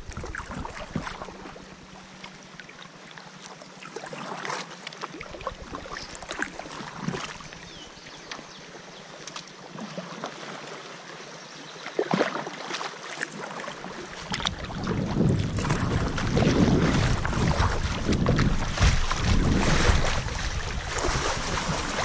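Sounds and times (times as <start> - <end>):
rushing water with low rumble: 0.0 - 22.0
water splashing around kayak hull: 0.0 - 22.0.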